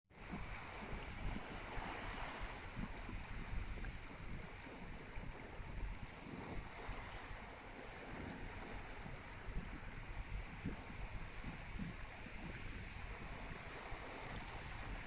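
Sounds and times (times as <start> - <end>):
rushing sea water: 0.2 - 15.0
wind buffeting microphone: 0.2 - 15.0.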